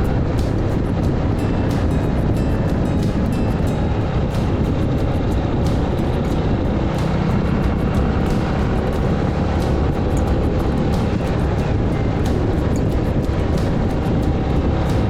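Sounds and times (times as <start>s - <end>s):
motorcycle engine rumble: 0.0s - 15.0s
wind rushing over microphone: 0.0s - 15.0s.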